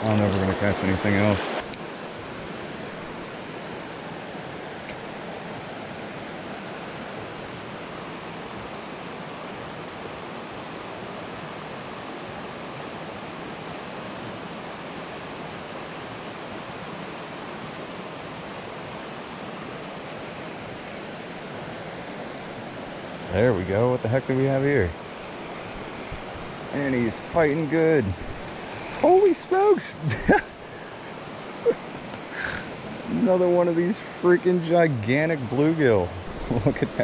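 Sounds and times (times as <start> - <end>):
creek water rushing over rocks: 0.0 - 37.0.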